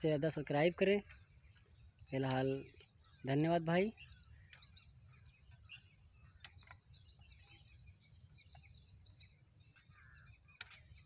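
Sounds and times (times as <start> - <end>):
bird chirps: 0.0 - 11.0
high insect drone: 0.0 - 11.0.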